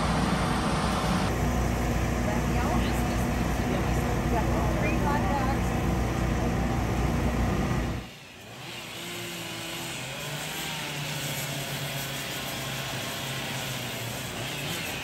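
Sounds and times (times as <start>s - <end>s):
engine-like drone: 0.0s - 15.0s
loud mechanical hum: 0.0s - 15.0s.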